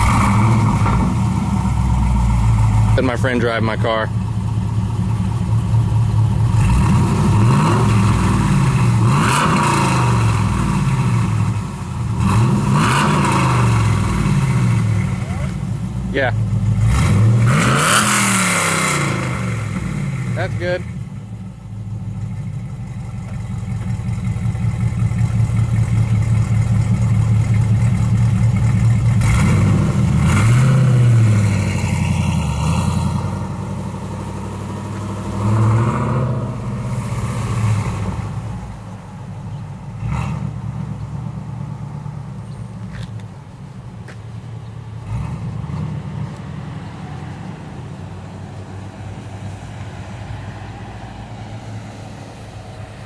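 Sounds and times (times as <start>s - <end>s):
loud car engine revving: 0.0s - 21.2s, 25.6s - 42.2s, 45.0s - 53.0s.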